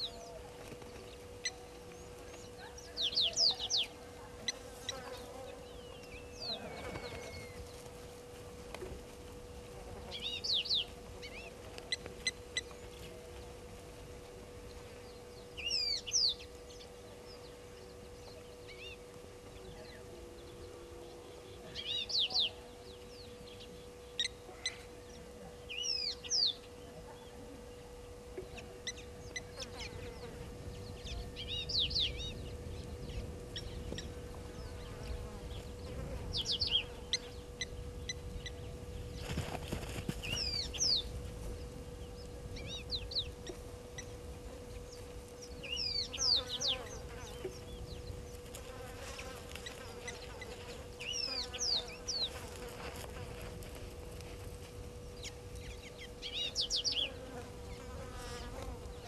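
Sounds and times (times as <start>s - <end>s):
small birds chirping: 0.0s - 8.0s, 10.0s - 13.6s, 14.8s - 59.0s
faint hum: 0.0s - 59.0s.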